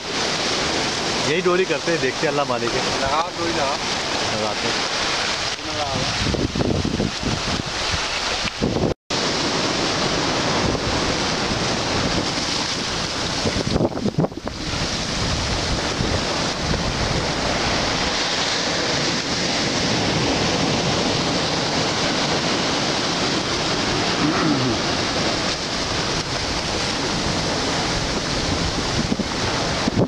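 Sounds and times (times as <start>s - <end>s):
surf breaking on beach: 0.0s - 30.0s
wind on microphone: 0.0s - 30.0s.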